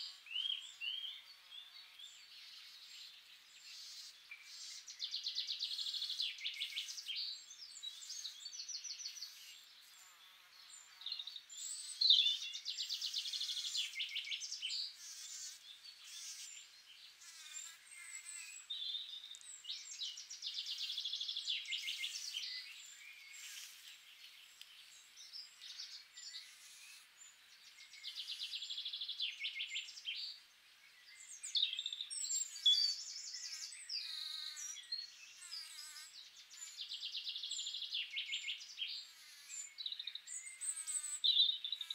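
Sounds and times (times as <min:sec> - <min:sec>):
bird chirps and tweets: 0:00.0 - 0:41.9.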